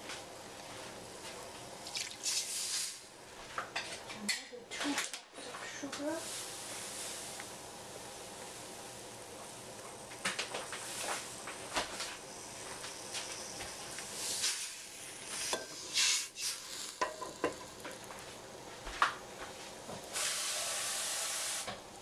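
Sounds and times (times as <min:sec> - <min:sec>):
sugar pouring into a pot: 0:00.5 - 0:03.1, 0:06.2 - 0:21.6.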